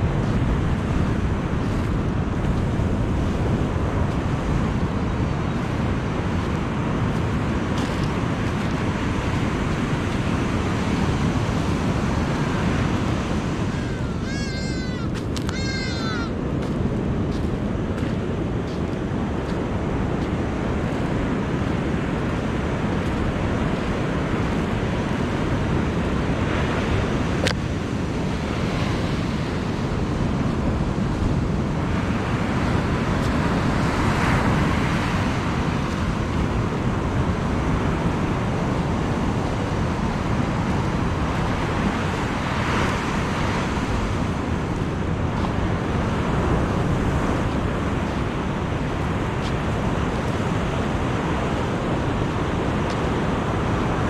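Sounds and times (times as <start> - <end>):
ocean surf breaking on beach: 0.0 - 54.0
wind buffeting microphone: 0.0 - 54.0.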